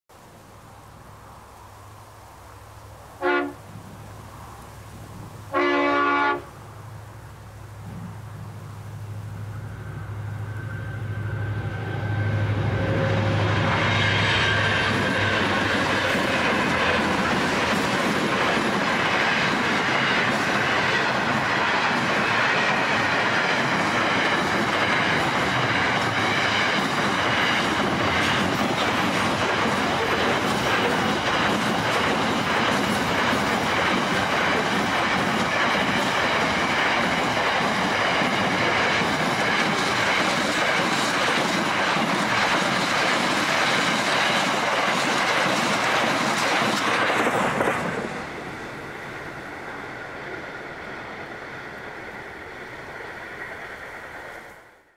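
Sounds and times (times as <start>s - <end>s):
train wheels rumbling on rails: 7.6s - 54.9s.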